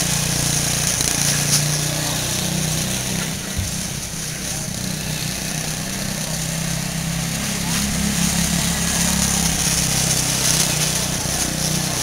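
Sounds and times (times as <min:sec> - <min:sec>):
small race car engine droning: 0:00.0 - 0:12.0.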